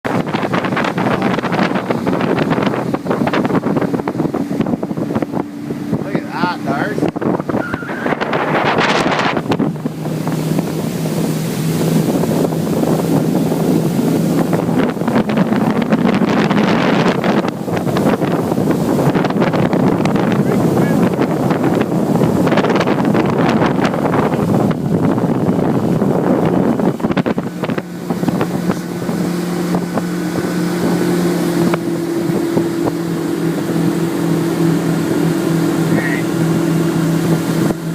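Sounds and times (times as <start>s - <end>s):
engine drone: 0.1s - 37.9s
wind buffeting microphone: 0.1s - 37.9s.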